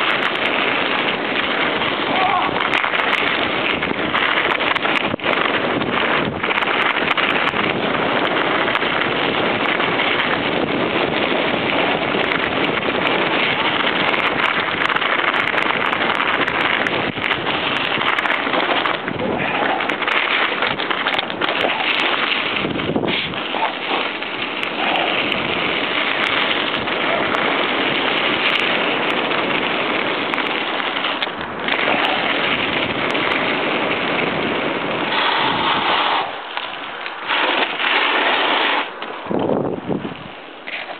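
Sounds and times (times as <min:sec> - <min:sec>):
bike rattling: 0:00.0 - 0:40.9
tyres crunching on dirt: 0:00.0 - 0:40.9
wind on microphone: 0:00.0 - 0:40.9.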